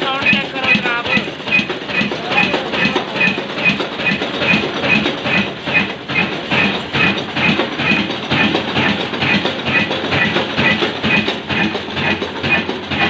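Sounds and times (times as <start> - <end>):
slow diesel engine beating: 0.0 - 13.0.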